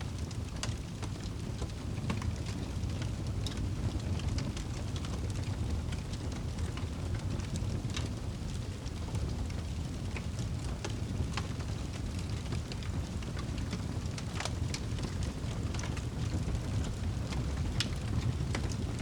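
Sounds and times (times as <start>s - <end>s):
wood fire crackling: 0.0s - 19.0s
fire pops and snaps: 0.1s - 19.0s.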